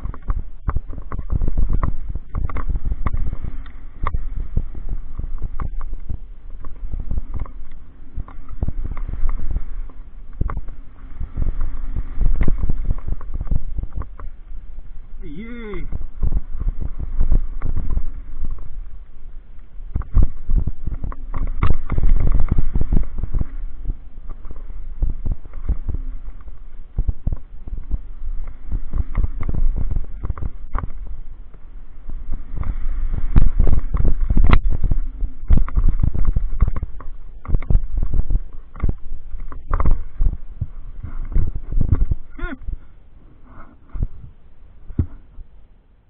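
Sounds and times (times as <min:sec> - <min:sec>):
mountain bike rattling on trail: 0:00.0 - 0:42.4
low rumble: 0:00.0 - 0:46.0.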